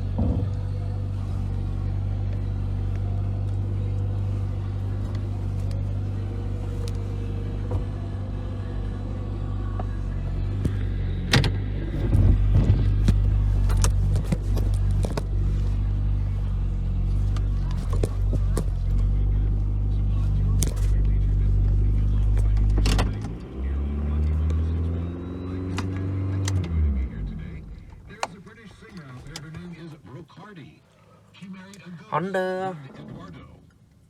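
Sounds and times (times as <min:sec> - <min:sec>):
engine clicks and knocks: 0:00.0 - 0:30.2
car engine idling: 0:00.0 - 0:34.0.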